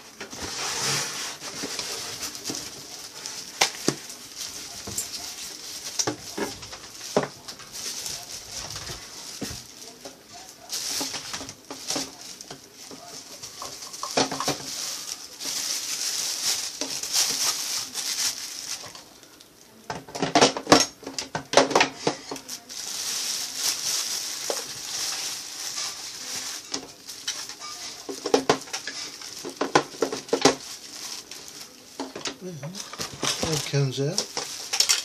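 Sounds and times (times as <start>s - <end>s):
packaging rustling: 0.0s - 19.4s, 21.6s - 35.0s
plastic clatter: 0.2s - 19.1s, 19.9s - 35.0s.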